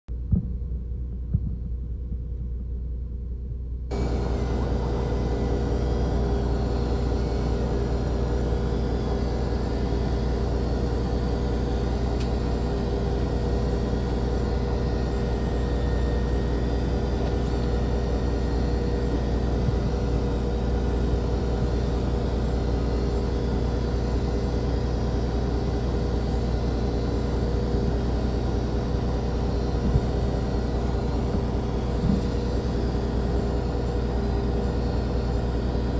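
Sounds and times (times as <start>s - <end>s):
fixed hum: 0.1s - 35.9s
boat engine droning: 3.9s - 35.9s.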